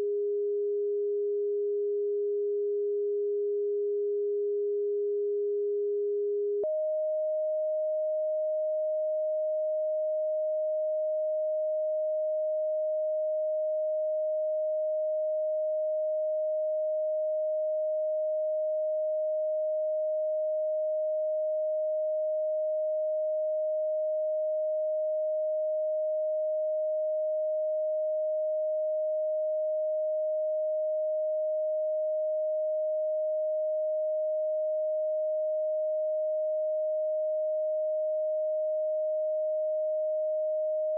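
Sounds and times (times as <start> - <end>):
steady sine tone: 0.0 - 40.9.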